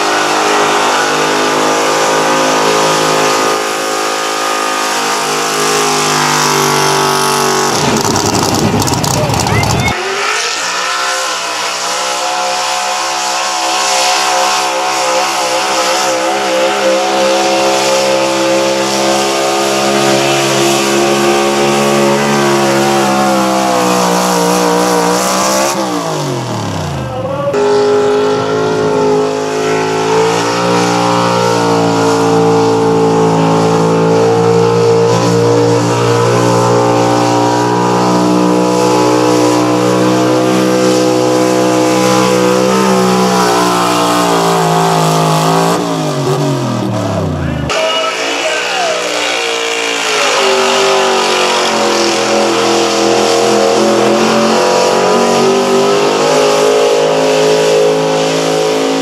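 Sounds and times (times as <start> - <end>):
truck engine at full throttle: 0.0 - 59.0.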